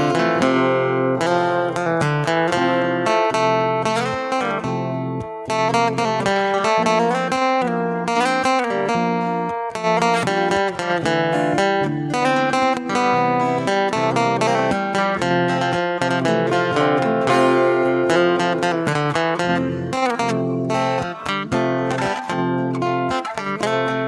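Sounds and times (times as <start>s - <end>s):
acoustic guitar plucking and strumming: 0.0s - 24.0s.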